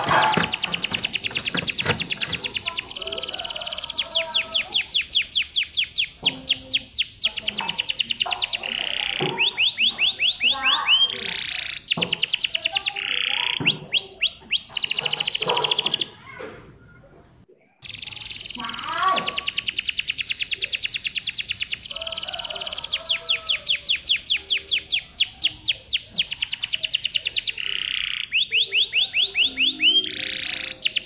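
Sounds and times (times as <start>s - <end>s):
canary singing: 0.0s - 16.2s, 17.8s - 31.0s.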